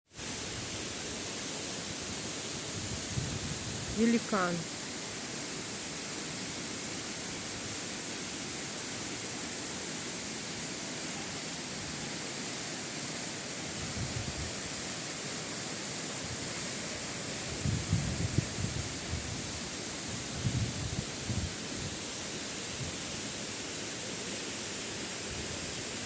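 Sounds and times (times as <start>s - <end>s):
waterfall rushing: 0.2s - 26.0s.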